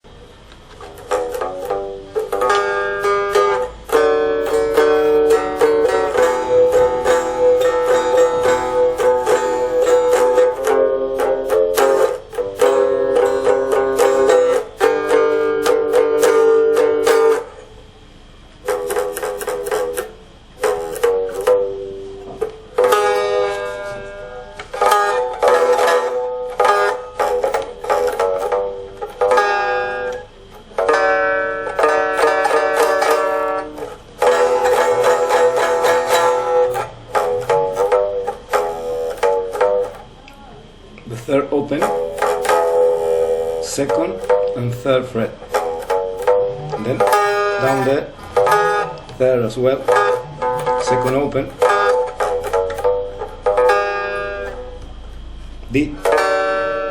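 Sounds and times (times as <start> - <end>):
twangy box guitar picking: 0.0 - 56.9.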